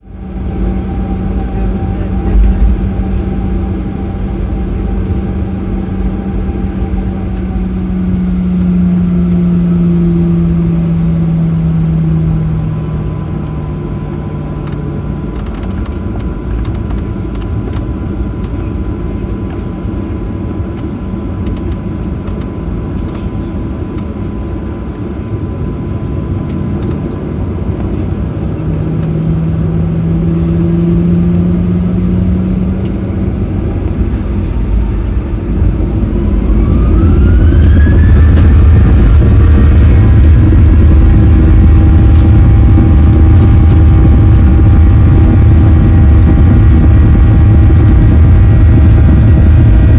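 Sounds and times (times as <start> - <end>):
jet engine hum in cabin: 0.0 - 49.9.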